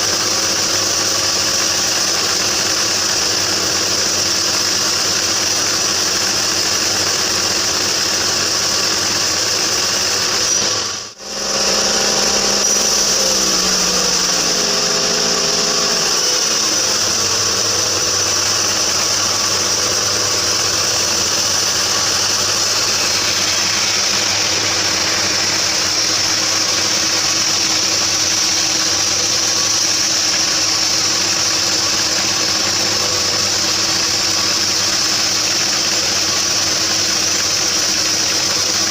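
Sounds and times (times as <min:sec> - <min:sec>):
bandsaw sawmill running: 0:00.0 - 0:38.9.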